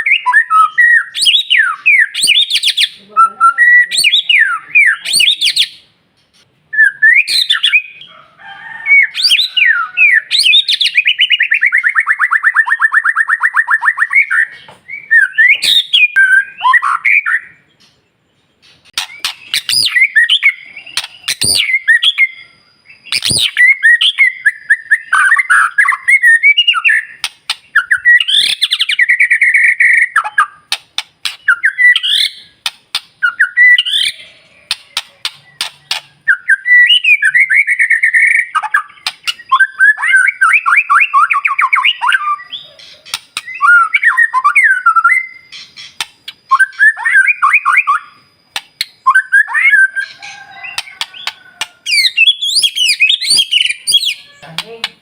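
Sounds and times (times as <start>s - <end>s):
bird singing whistles and trills: 0.0s - 5.8s, 6.7s - 8.1s, 9.0s - 18.0s, 18.9s - 54.5s.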